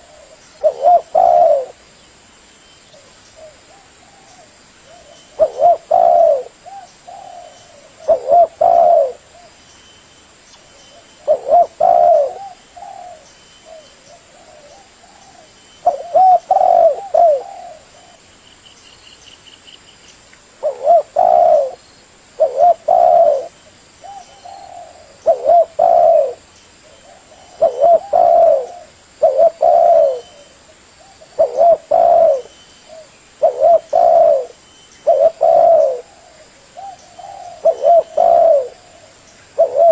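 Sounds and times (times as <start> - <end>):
dove cooing: 0.0 - 1.8, 3.0 - 9.6, 10.9 - 18.2, 20.6 - 21.8, 22.4 - 39.9.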